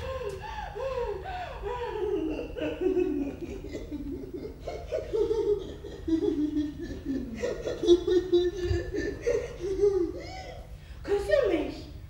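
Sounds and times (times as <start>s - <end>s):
woman laughing: 0.0s - 10.7s.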